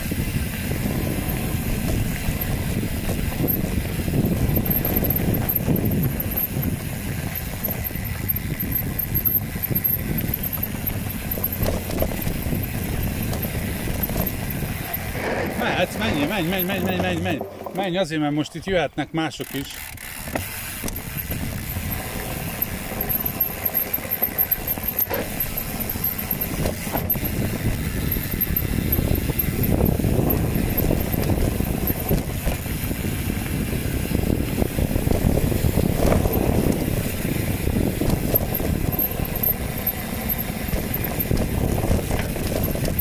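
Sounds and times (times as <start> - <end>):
wind on microphone: 0.0 - 17.8, 20.8 - 23.8, 24.7 - 43.0
bike tyre rumble and rattle: 0.0 - 43.0.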